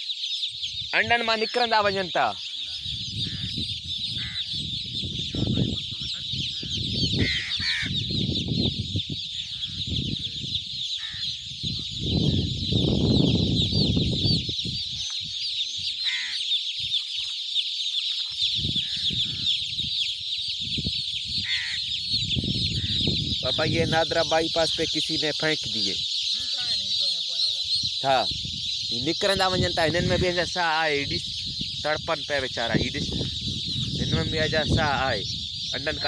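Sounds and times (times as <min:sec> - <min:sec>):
chicks peeping: 0:00.0 - 0:36.0.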